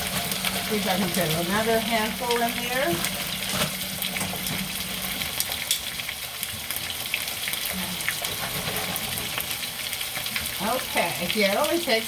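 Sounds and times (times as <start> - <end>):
fries deep-frying in hot oil: 0.0 - 12.0.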